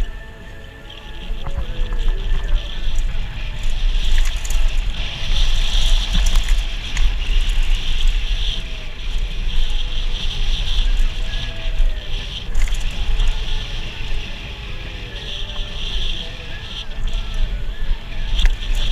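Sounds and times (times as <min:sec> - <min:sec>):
bike clicks and rattles: 0:00.0 - 0:18.9
bike tyres on dirt trail: 0:00.0 - 0:18.9
wind rushing over microphone: 0:00.0 - 0:18.9.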